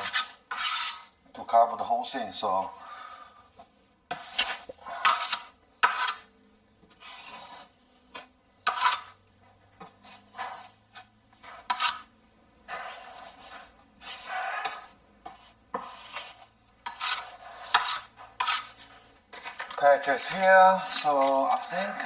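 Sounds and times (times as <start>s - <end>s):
scraping plasterboard edges: 0.0s - 1.2s, 2.8s - 22.0s.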